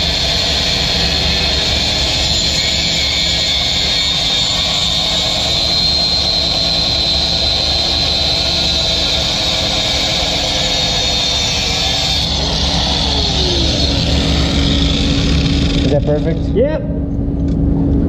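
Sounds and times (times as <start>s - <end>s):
angle grinder cutting metal: 0.0s - 16.2s.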